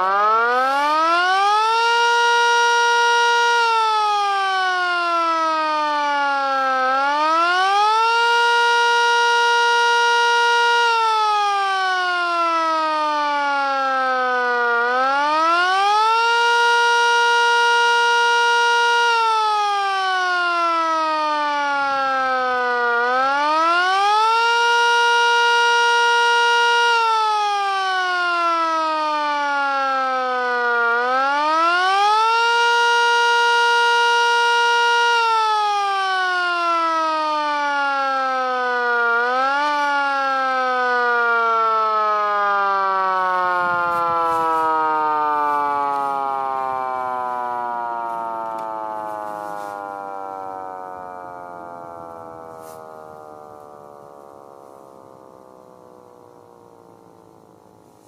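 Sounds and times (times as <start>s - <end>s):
siren wailing: 0.0s - 58.0s.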